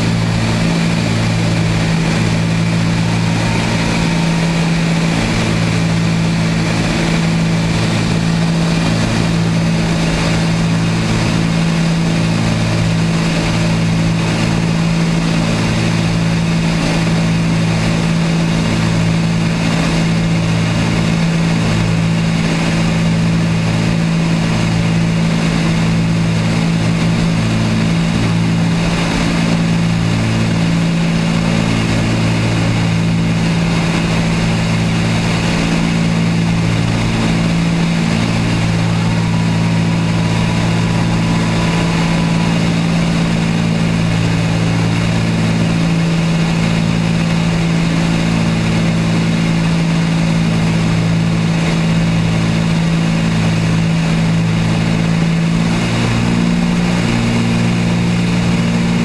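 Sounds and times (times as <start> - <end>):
airflow rush: 0.0 - 59.0
twin piston engines and propellers: 0.0 - 59.0.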